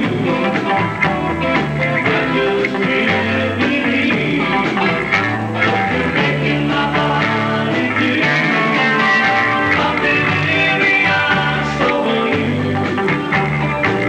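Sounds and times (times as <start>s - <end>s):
distorted live rock band: 0.0s - 14.0s.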